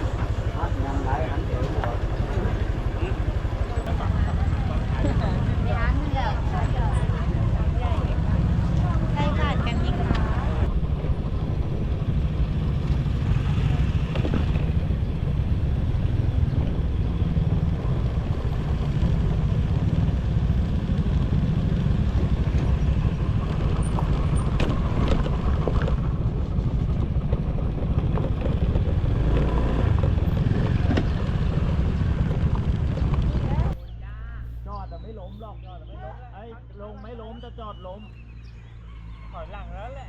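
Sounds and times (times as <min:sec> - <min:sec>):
road and wind hiss: 0:00.0 - 0:33.8
wind buffeting microphone: 0:00.0 - 0:33.8
vehicle engine rumble: 0:00.0 - 0:40.0.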